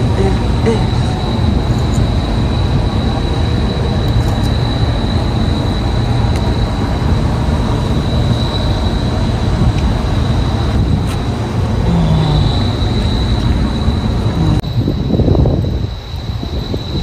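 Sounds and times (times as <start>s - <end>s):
high-pitched whine: 0.0s - 17.0s
machinery low rumble: 0.0s - 17.0s.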